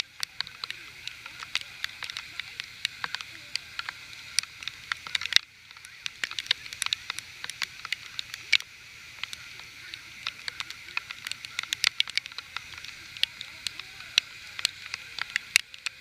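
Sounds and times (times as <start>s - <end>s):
rain hiss: 0.0s - 16.0s
raindrops tapping hard surface: 0.0s - 16.0s.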